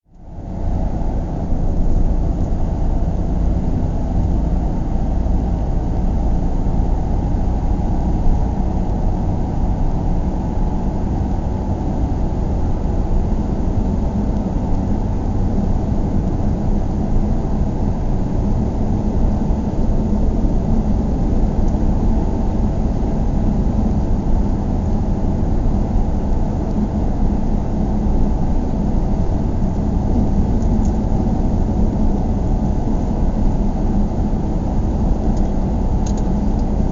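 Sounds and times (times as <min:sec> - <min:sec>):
car road rumble from inside: 0:00.1 - 0:36.9.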